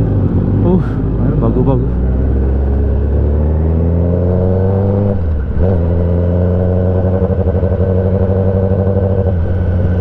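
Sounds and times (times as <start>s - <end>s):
motorcycle engine accelerating hard: 0.0s - 10.0s.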